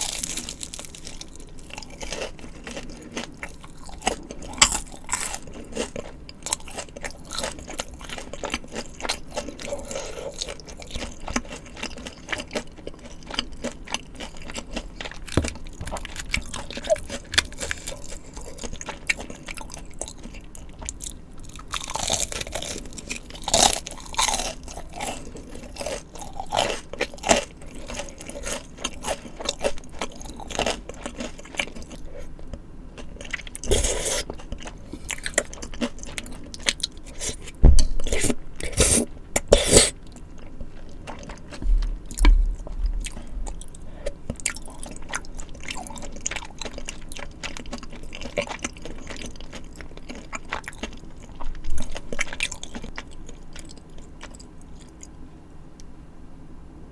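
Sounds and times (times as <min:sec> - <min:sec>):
crunching and chewing food: 0:00.0 - 0:55.9.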